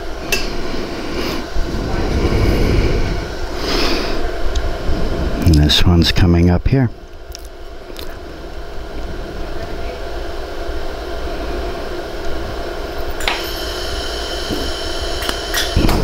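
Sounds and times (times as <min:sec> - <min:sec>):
high thin whine: 0:00.0 - 0:16.0
welding machine humming: 0:00.0 - 0:16.0.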